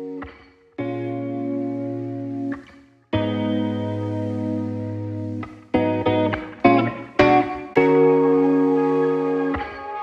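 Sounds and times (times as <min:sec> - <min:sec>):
guitar chords: 0:00.0 - 0:10.0.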